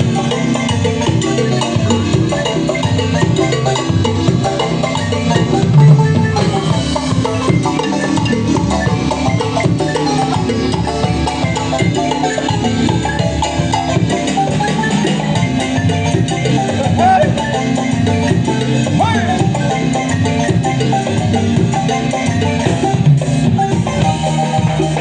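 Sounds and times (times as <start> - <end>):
marimba ensemble playing: 0.0 - 25.0.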